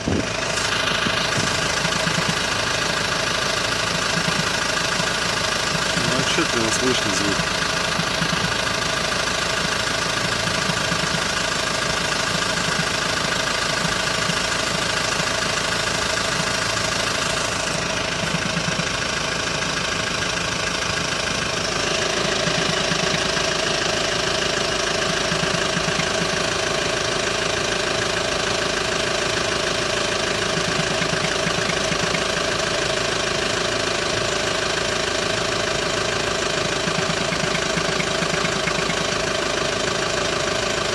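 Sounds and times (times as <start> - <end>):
diesel engine idling: 0.0 - 40.9
irregular engine knock: 0.0 - 40.9.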